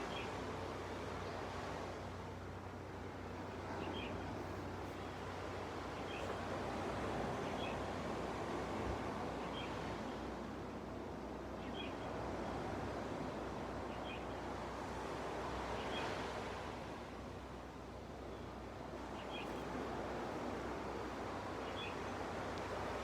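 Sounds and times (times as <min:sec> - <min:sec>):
sea waves washing on beach: 0:00.0 - 0:23.0.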